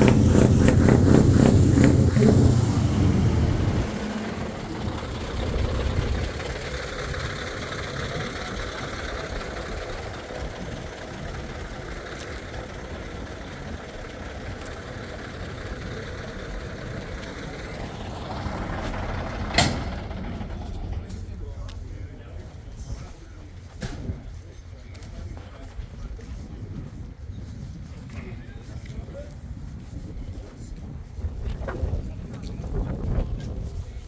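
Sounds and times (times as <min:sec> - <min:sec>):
truck engine rumbling: 0:00.0 - 0:28.0.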